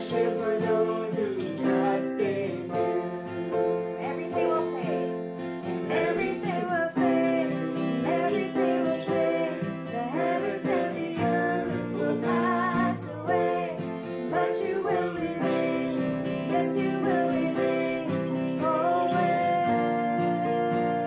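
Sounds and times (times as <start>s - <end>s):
digital keyboard: 0.0s - 21.0s
man and woman singing: 0.0s - 21.0s
strummed acoustic guitar: 0.0s - 21.0s.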